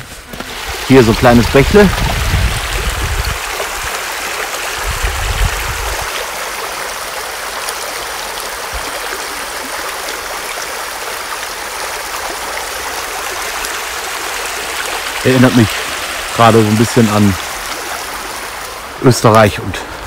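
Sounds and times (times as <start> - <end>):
brook trickling: 0.0 - 20.0.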